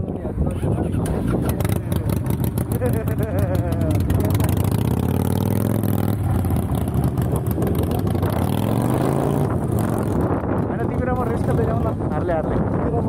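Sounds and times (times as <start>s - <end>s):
motorcycle engine accelerating: 0.4s - 12.5s.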